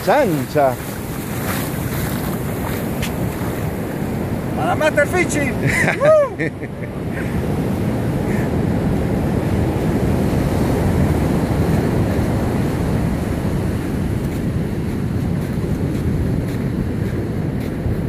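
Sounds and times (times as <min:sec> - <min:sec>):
surf washing on sandy beach: 0:00.0 - 0:18.0
wind buffeting microphone: 0:00.0 - 0:18.0.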